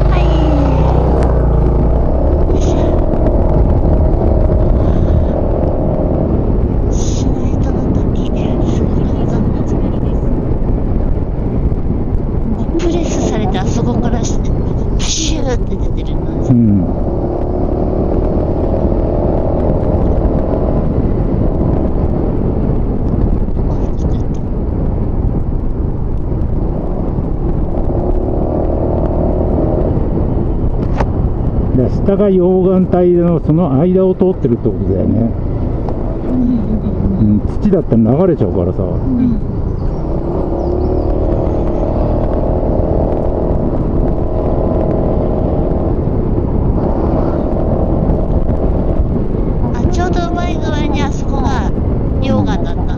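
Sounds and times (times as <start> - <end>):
wind and road noise: 0.0 - 52.9.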